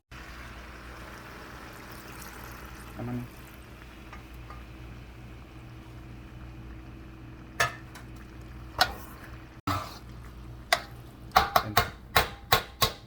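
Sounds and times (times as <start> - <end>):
steady low hum: 0.3 - 13.0.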